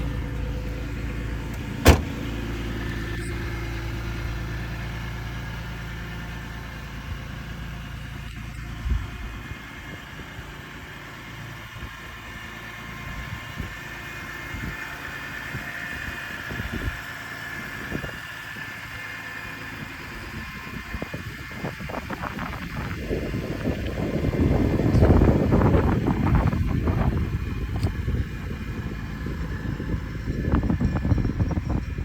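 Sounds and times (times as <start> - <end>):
car engine idling: 0.0 - 31.7.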